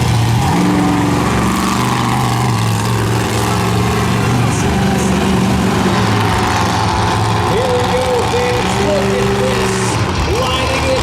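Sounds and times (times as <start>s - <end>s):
monster truck engine running: 0.0s - 11.0s.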